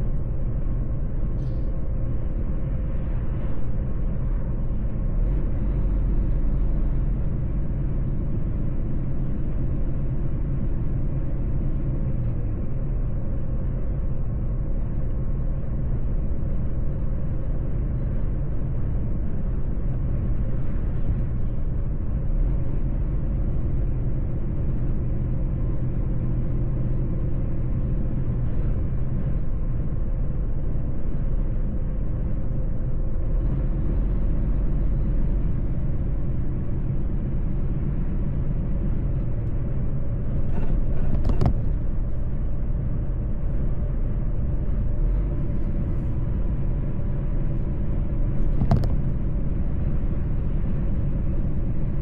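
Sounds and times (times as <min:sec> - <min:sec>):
road noise: 0:00.0 - 0:52.0
truck diesel engine droning: 0:00.0 - 0:52.0.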